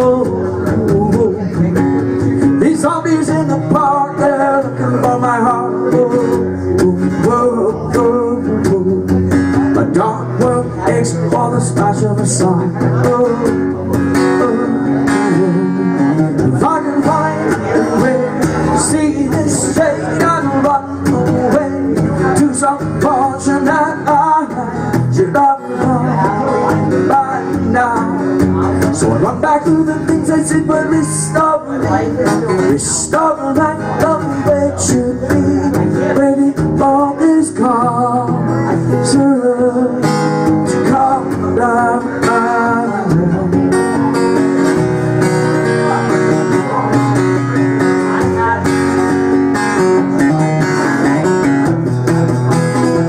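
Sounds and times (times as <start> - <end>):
guitar playing: 0.0 - 53.0
person singing: 0.0 - 53.0.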